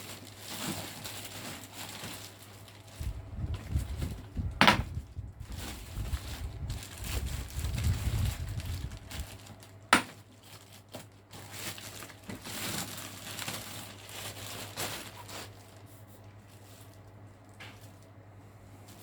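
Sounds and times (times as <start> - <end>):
packaging crinkling: 0.0 - 18.1.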